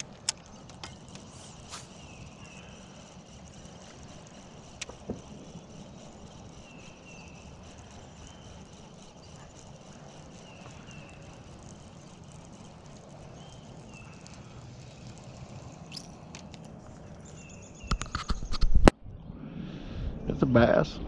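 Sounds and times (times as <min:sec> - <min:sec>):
outdoor background noise on water: 0:00.0 - 0:20.2.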